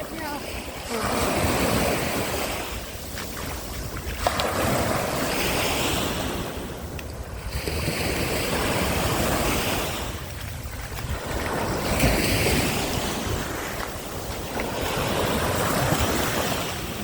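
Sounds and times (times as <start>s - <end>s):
small waves breaking on beach: 0.0s - 17.0s
wind rumbling on microphone: 0.0s - 17.0s.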